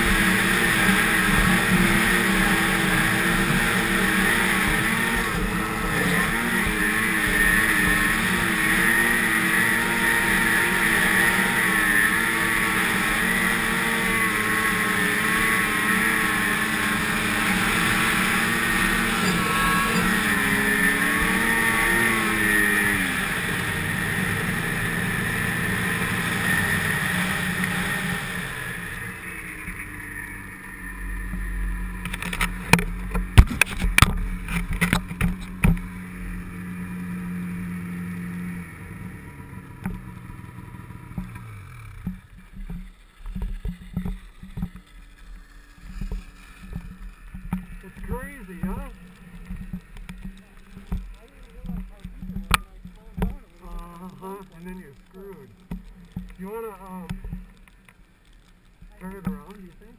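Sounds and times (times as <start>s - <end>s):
snowmobile engine running: 0.0s - 58.2s, 58.8s - 59.9s.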